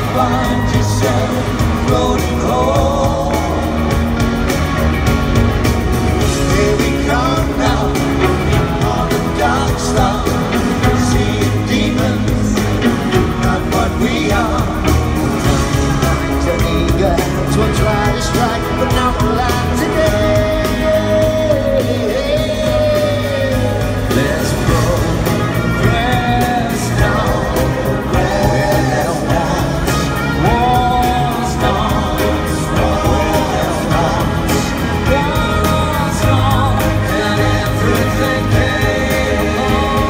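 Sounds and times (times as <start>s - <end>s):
male lead singer: 0.0s - 40.0s
pop-rock band playing live: 0.0s - 40.0s.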